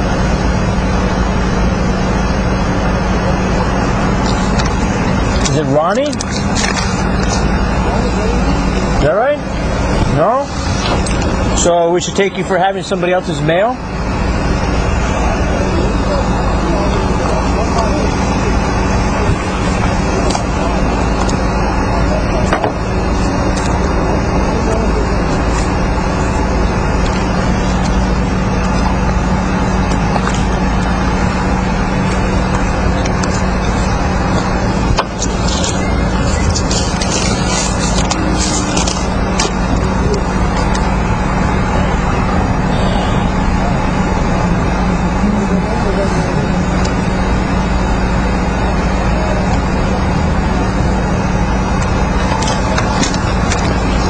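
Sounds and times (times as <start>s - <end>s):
vehicle low hum: 0.0s - 54.0s.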